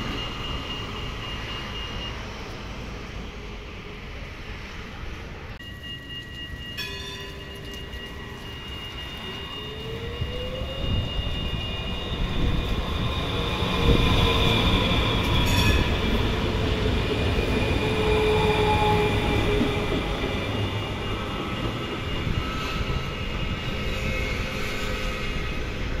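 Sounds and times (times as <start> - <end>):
tram wheels squealing on rails: 0.0 - 26.0.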